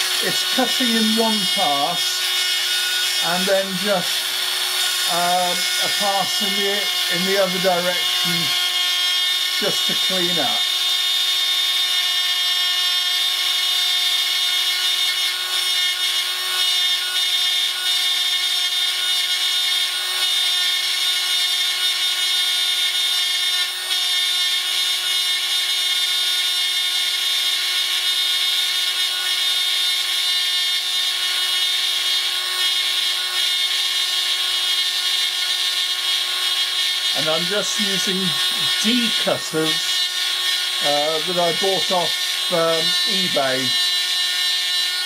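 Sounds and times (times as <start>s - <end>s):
rotary drill high-pitched whine: 0.0s - 45.0s.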